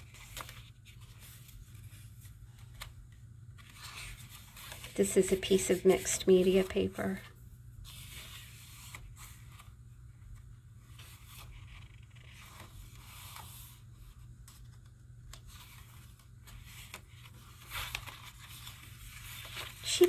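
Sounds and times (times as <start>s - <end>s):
paper rustling: 0.0s - 7.2s, 7.8s - 20.0s.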